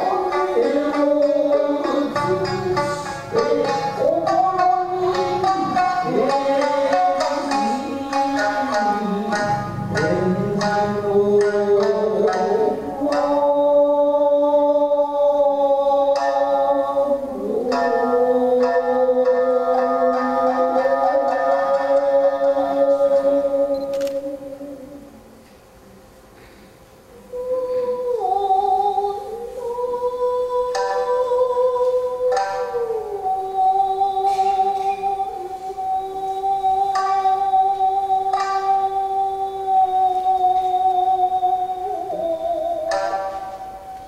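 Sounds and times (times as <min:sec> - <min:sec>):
shamisen plucking: 0:00.0 - 0:13.8, 0:15.9 - 0:24.8, 0:27.9 - 0:44.0
person singing: 0:00.0 - 0:25.3, 0:27.1 - 0:44.0.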